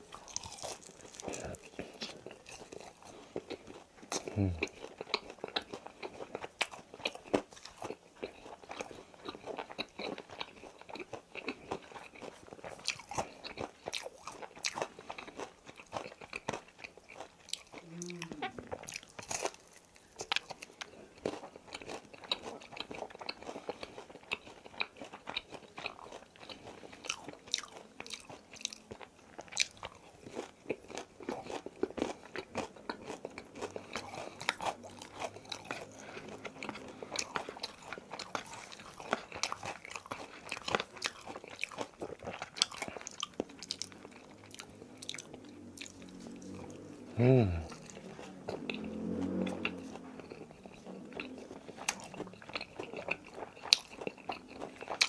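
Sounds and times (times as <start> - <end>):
crunching fried chicken: 0.0 - 55.0.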